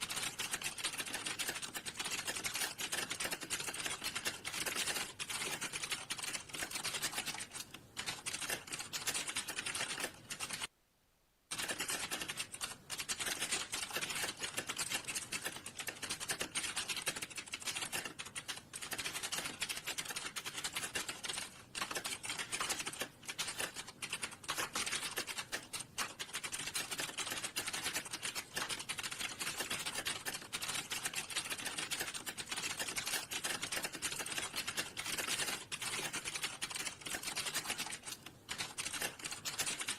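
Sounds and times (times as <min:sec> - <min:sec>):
fast typing on a keyboard: 0:00.0 - 0:10.7, 0:11.5 - 0:39.9.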